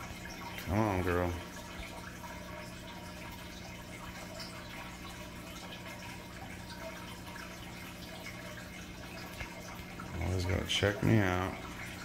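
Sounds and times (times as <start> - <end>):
aquarium filter hum: 0.0 - 12.0
water trickling and dripping: 0.0 - 12.0.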